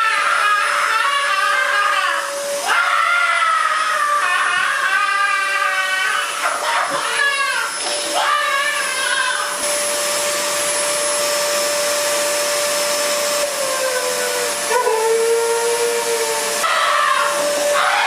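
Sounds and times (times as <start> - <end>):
blower motor whine: 0.0 - 18.0
blower rushing hiss: 0.0 - 18.0.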